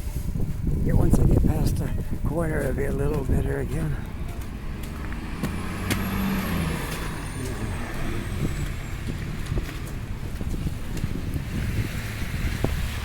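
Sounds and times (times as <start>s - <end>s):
heavy vehicle engine rumble: 0.0s - 13.0s.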